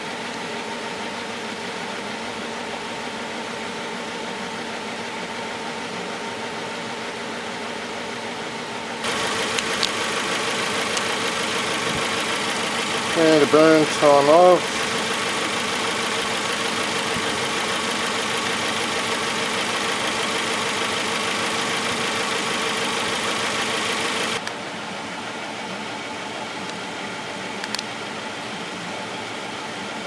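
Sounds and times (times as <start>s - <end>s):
engine idling with misfire: 0.0s - 30.0s.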